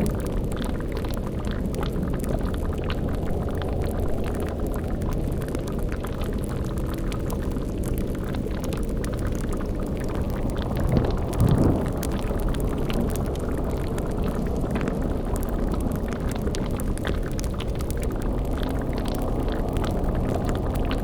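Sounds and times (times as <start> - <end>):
crackles and pops: 0.0 - 21.0
deep rumble: 0.0 - 21.0.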